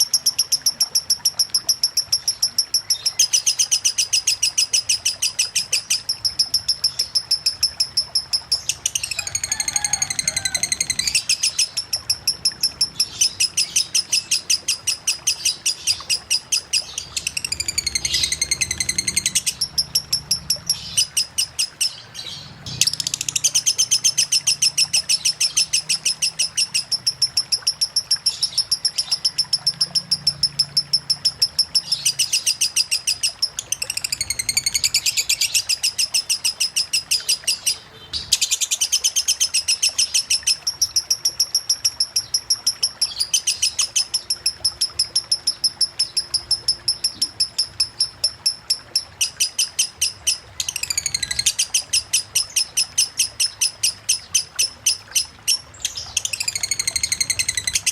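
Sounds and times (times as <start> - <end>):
lovebird singing: 0.0 - 57.9.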